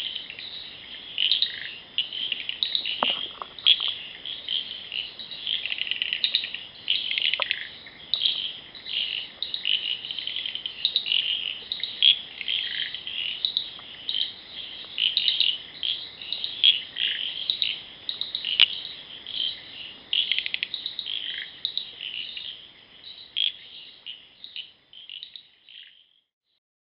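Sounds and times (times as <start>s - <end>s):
insects chirping and trilling: 0.0s - 26.3s.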